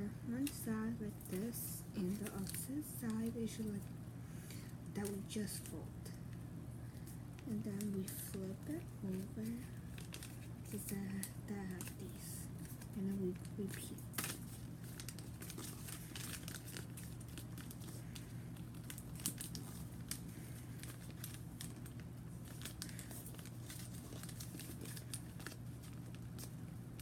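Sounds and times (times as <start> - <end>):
paper rustling and crinkling: 1.2 - 3.8, 7.0 - 27.0.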